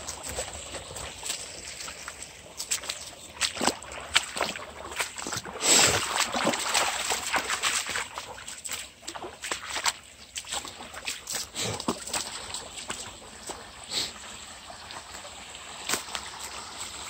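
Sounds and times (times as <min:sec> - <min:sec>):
feet splashing through a brook: 0:00.0 - 0:14.2, 0:14.8 - 0:17.0.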